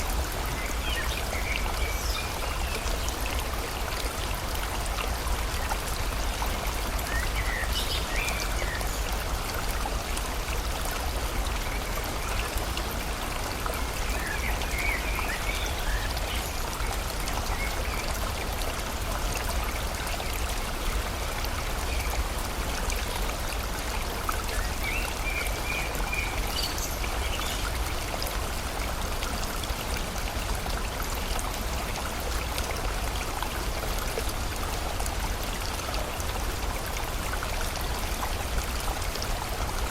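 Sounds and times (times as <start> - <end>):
rain falling: 0.0 - 39.9
stream flowing: 0.0 - 39.9.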